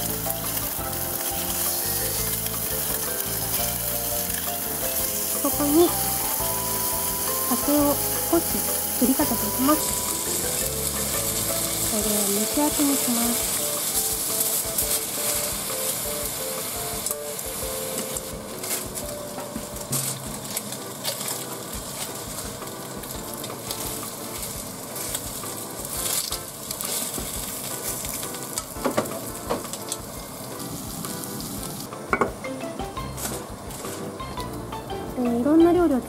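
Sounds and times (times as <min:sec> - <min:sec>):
fish sizzling in a frying pan: 0:00.0 - 0:31.9.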